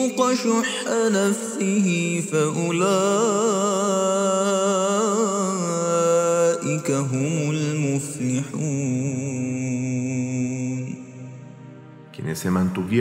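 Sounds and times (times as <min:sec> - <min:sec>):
person chanting recitation: 0:00.0 - 0:11.5, 0:12.1 - 0:13.0.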